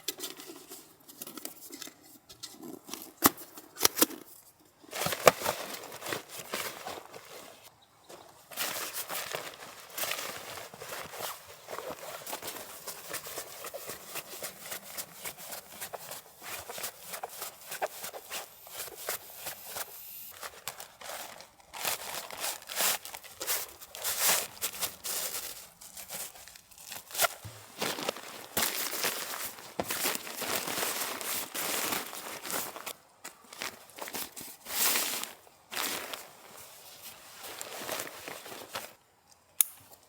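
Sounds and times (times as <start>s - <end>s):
rustling and crinkling material: 0.0s - 39.0s.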